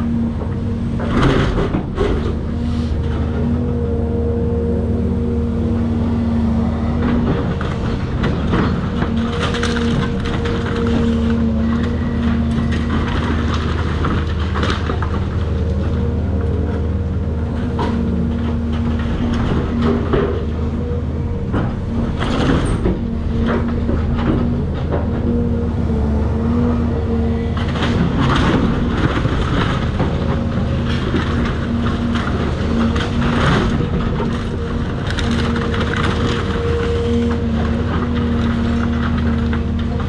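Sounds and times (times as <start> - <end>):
excavator diesel engine running: 0.0 - 40.0
demolition debris crunching: 0.1 - 40.0.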